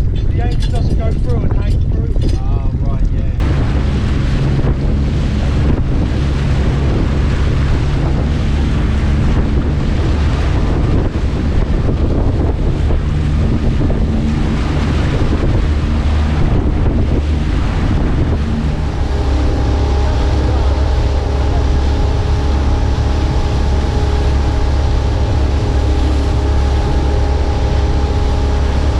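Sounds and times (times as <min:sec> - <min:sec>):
sea water washing around boat: 0:00.0 - 0:28.9
wind buffeting microphone: 0:00.0 - 0:28.9.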